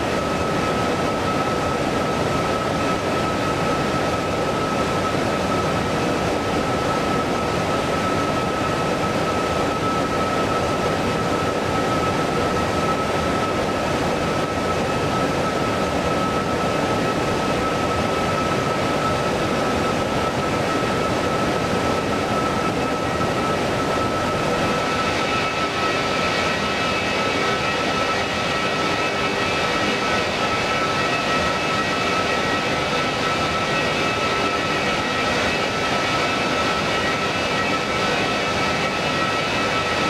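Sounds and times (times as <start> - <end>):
high whine tones: 0.0 - 40.0
jet engines whining: 0.0 - 40.0.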